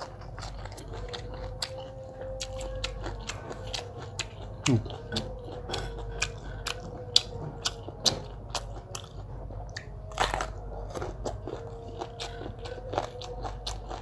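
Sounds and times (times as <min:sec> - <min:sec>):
person chewing and crunching food: 0:00.0 - 0:14.0.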